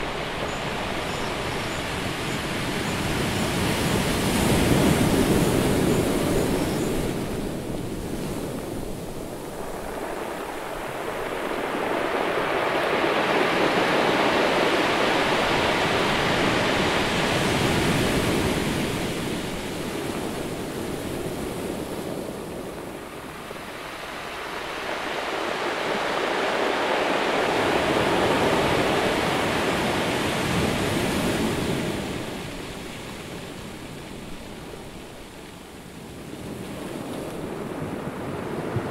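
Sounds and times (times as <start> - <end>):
waves breaking: 0.0 - 38.9.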